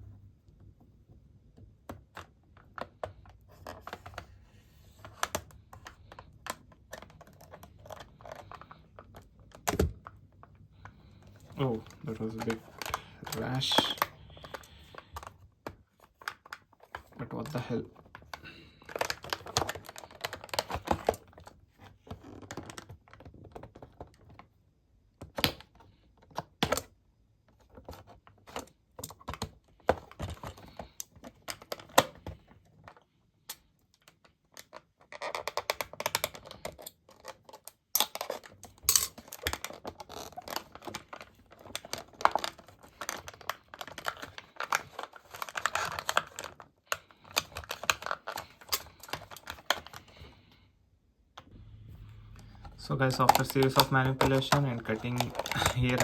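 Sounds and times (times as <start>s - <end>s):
packaging crinkling and clicking: 4.9s - 24.4s, 27.6s - 50.5s, 52.3s - 56.0s.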